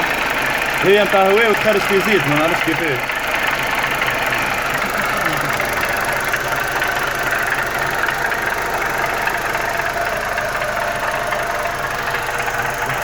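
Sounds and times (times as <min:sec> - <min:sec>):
car engine idling with ticking clatter: 0:00.0 - 0:13.0.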